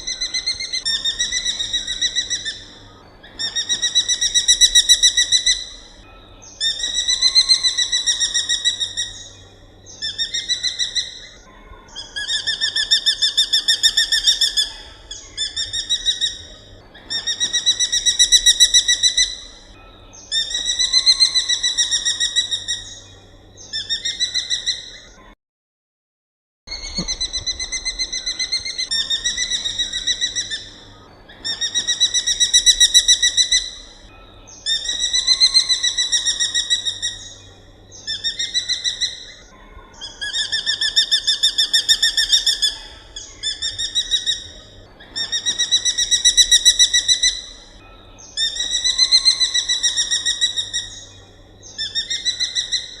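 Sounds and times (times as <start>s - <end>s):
bird high chattering call: 0.0s - 25.2s, 26.7s - 53.0s.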